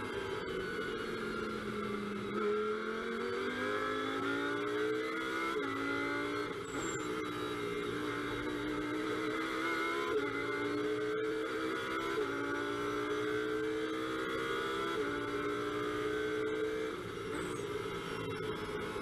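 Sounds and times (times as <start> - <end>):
quick gear upshifts: 0.0 - 19.0
race car engine accelerating: 0.0 - 19.0.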